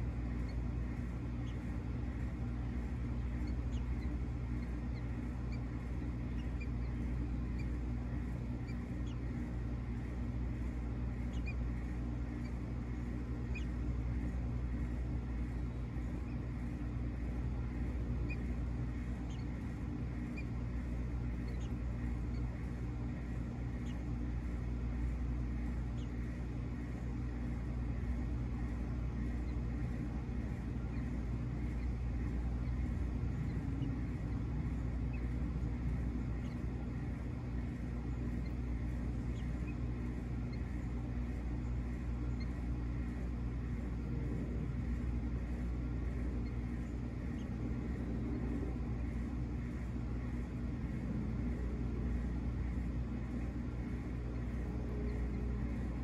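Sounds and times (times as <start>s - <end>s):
low hum and rumble: 0.0s - 56.0s.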